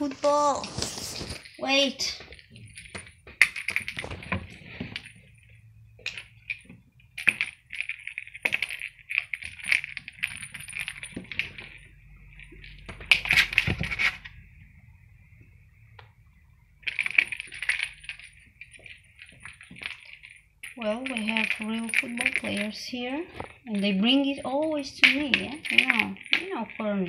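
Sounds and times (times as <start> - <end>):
jingling toy ball on stone floor: 1.4 - 14.6, 16.7 - 27.0.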